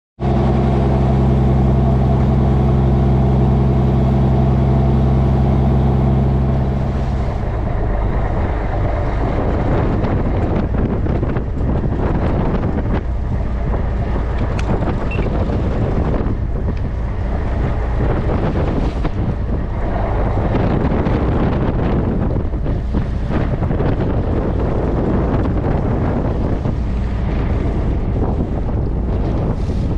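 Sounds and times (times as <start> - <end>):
boat engine humming: 0.2 - 29.9
wind buffeting microphone: 0.2 - 29.9.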